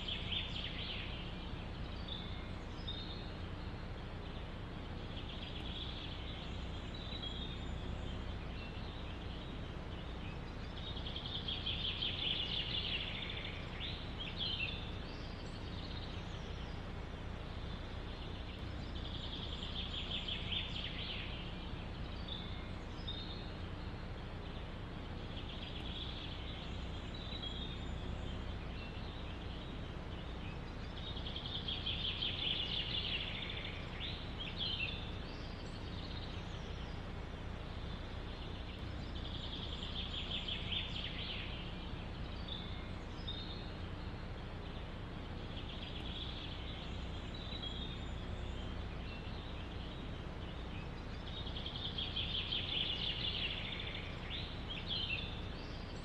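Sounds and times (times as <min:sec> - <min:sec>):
low wind rumble: 0:00.0 - 0:56.0
songbirds singing trilled song: 0:00.0 - 0:56.0.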